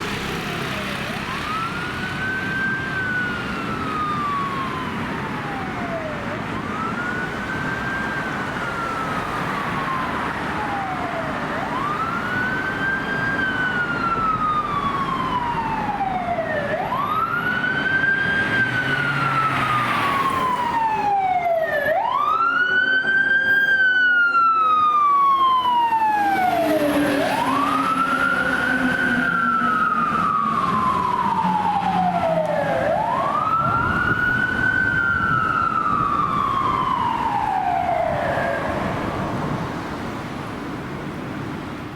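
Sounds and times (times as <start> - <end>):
fire engine siren wailing: 0.0 - 41.9.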